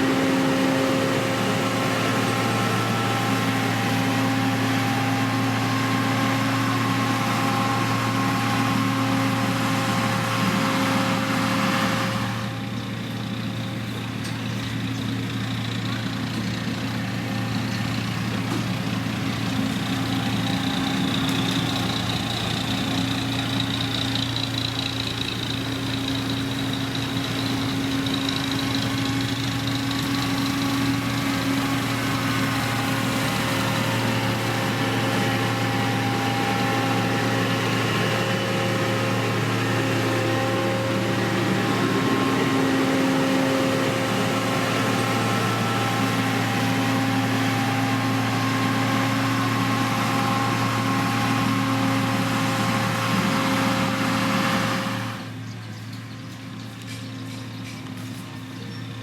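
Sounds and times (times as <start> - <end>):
diesel engine low hum: 0.0 - 59.0.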